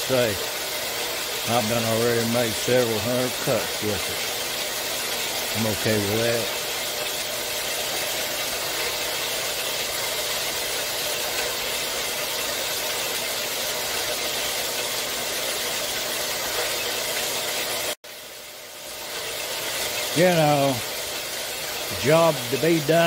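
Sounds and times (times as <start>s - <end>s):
metal-cutting bandsaw sawing steel: 0.0s - 17.9s, 19.1s - 23.0s.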